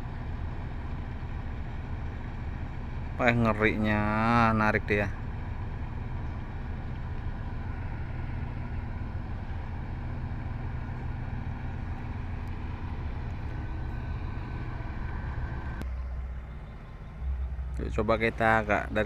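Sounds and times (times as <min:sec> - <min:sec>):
diesel engine under heavy load: 0:00.0 - 0:19.0.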